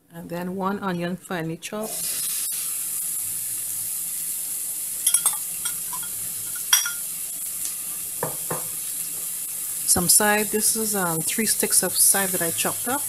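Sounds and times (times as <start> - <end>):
onion sizzling in hot oil: 1.8 - 13.0.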